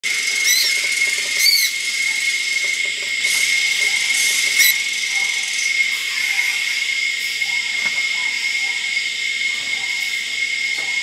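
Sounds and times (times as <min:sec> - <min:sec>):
insects high-pitched drone: 0:00.0 - 0:11.0.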